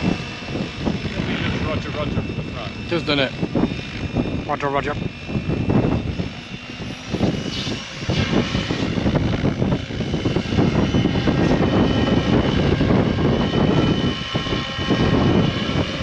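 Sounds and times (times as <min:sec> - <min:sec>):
electric motor whine: 0:00.0 - 0:16.0
helicopter rotor blades whooshing: 0:00.0 - 0:16.0.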